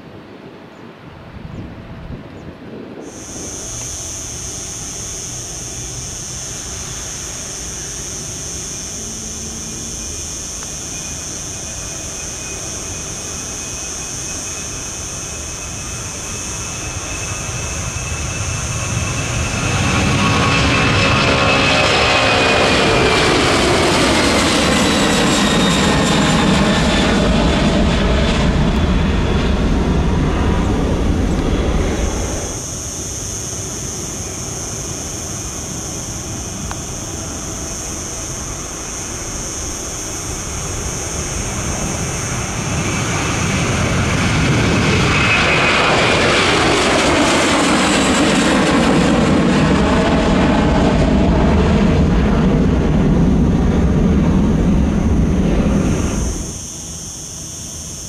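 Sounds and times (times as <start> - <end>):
jet engines passing: 0.0 - 58.0.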